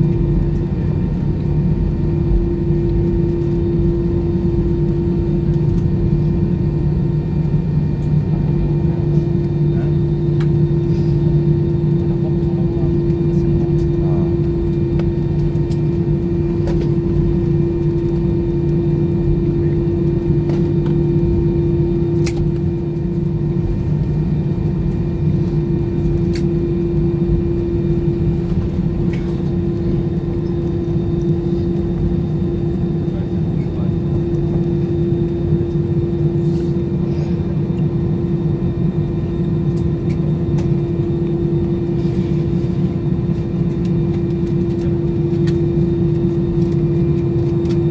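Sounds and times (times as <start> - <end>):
jet engines idling drone: 0.0 - 47.9.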